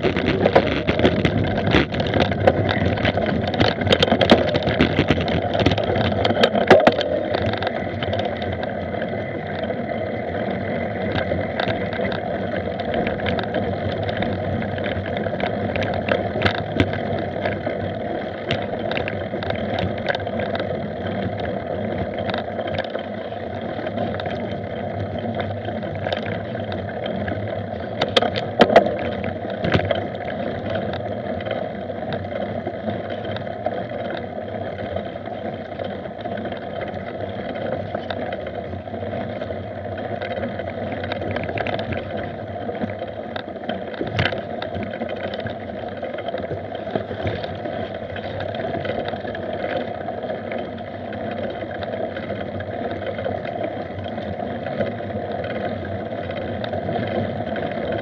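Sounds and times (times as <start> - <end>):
bike rattling and knocking over bumps: 0.0 - 58.0
mountain bike ride noise: 0.0 - 58.0.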